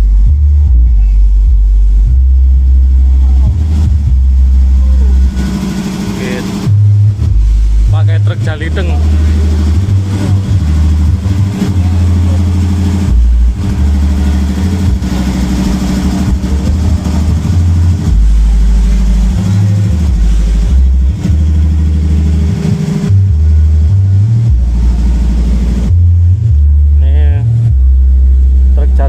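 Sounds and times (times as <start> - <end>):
deep bass notes stepping in pitch: 0.0 - 29.0.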